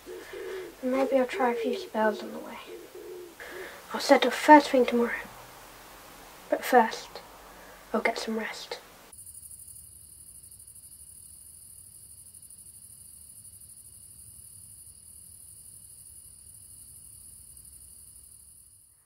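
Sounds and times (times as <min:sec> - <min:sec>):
crickets chirring: 0:00.0 - 0:18.9.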